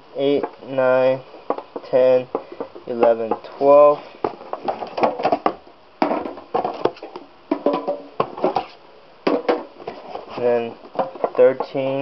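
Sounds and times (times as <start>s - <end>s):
boxes knocking and scraping: 1.3s - 12.0s.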